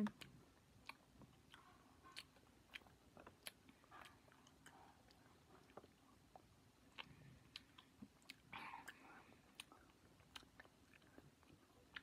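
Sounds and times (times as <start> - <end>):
chewing mouth clicks: 0.0 - 12.0.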